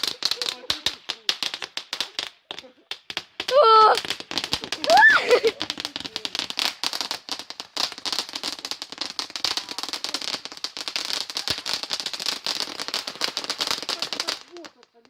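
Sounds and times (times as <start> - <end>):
firework crackling: 0.0 - 15.0.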